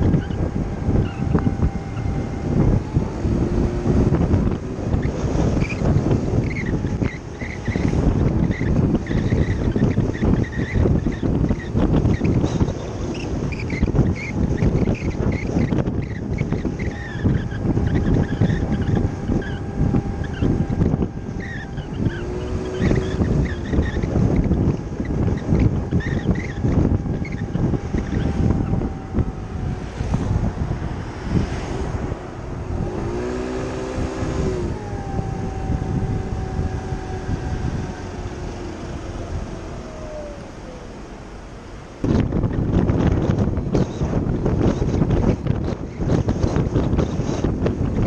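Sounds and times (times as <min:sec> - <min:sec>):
scooter engine running: 0:00.0 - 0:48.0
wind buffeting microphone: 0:00.0 - 0:48.0.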